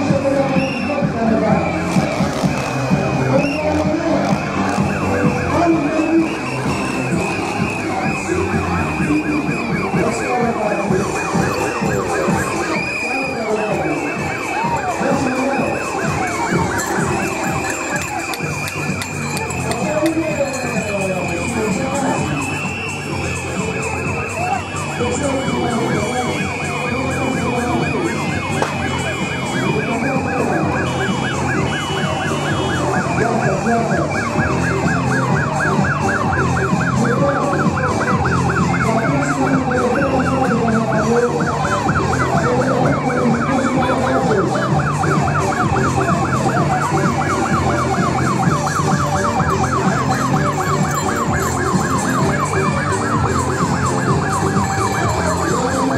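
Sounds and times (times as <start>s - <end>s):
ambulance siren warbling: 0.0s - 55.9s.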